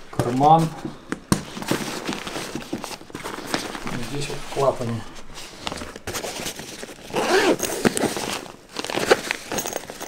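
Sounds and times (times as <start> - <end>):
nylon backpack rustling: 1.5 - 10.0.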